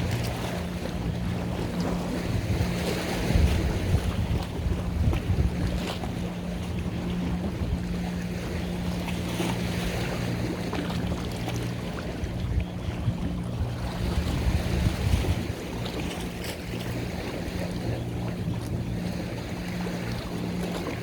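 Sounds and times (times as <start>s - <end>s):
water wash: 0.0s - 17.5s
boat engine droning: 0.0s - 21.0s
wind buffeting microphone: 0.0s - 21.0s.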